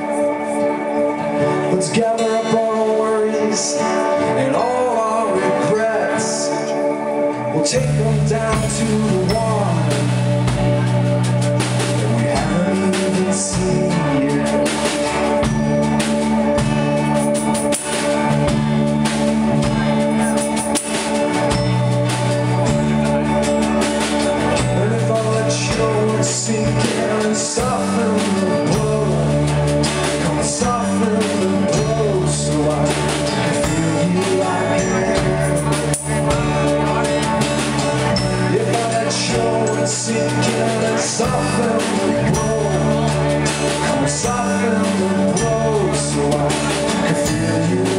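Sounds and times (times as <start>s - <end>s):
drum kit: 0.0s - 47.9s
electric bass: 0.0s - 47.9s
strummed acoustic guitar: 0.0s - 47.9s.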